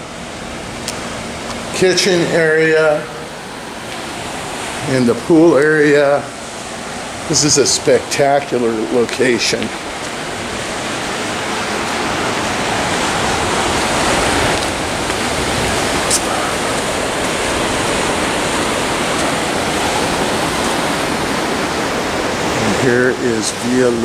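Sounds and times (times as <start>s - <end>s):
surf breaking on rocky shore: 1.1s - 24.0s.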